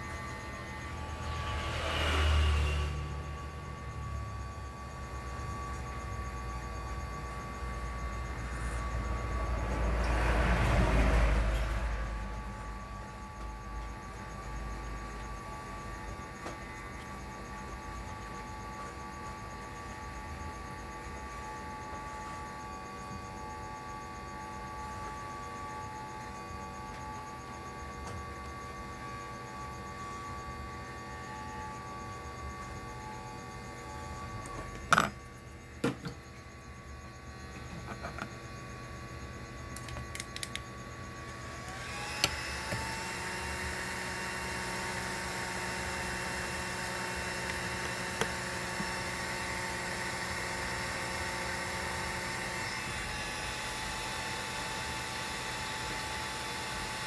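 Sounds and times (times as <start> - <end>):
hot air blower hissing and whining: 0.0 - 57.0.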